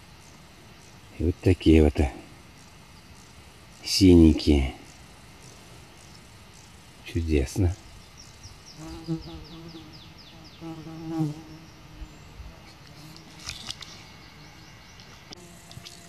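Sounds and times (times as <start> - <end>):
insect buzzing: 2.4 - 7.1, 7.7 - 16.0.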